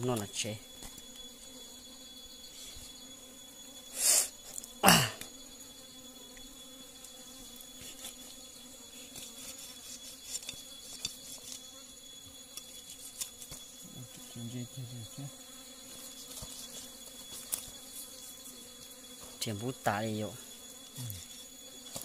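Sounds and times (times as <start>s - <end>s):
forest insects droning: 0.0s - 22.0s.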